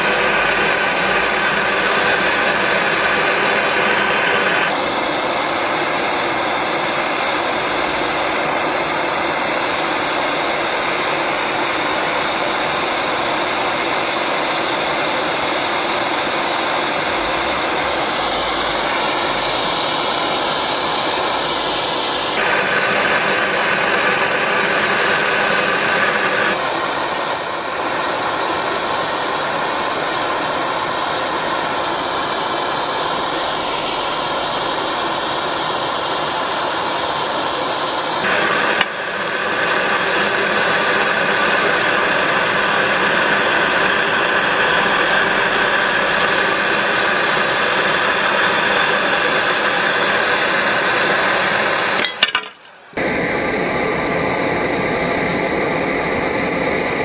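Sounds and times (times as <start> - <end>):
blowtorch flame hissing: 0.0 - 57.0.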